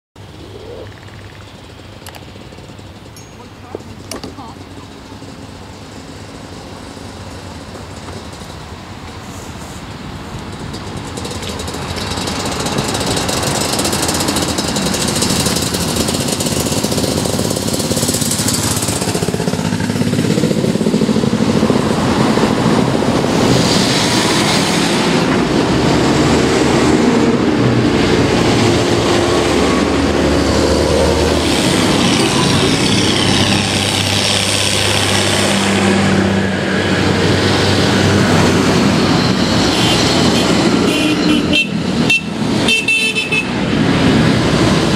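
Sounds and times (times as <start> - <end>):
tractors driving past: 0.2 - 44.9.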